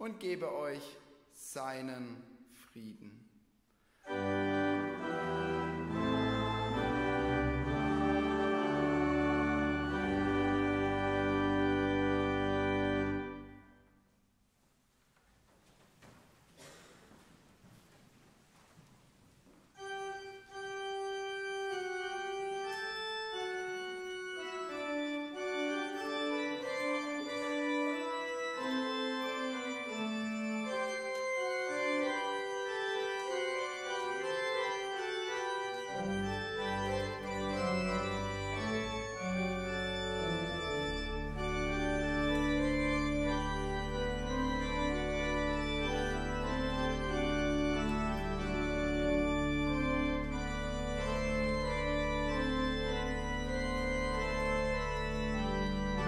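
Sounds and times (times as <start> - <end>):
church organ playing: 4.0 - 14.0, 19.7 - 56.0.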